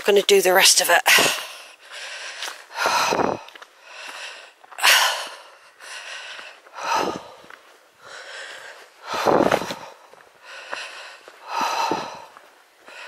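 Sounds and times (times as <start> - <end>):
woman breathing heavily: 1.1 - 13.0.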